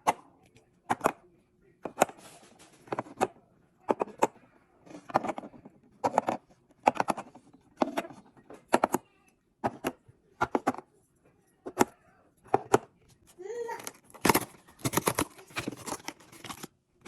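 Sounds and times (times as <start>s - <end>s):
groceries knocking and clicking: 0.0s - 10.9s, 11.6s - 17.0s.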